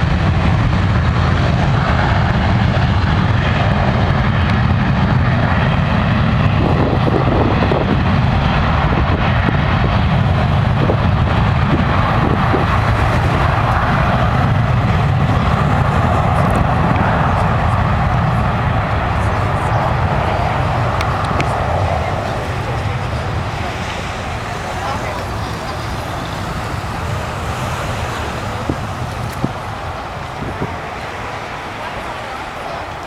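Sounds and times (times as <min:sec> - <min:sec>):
jet engines deep rumble: 0:00.0 - 0:33.0.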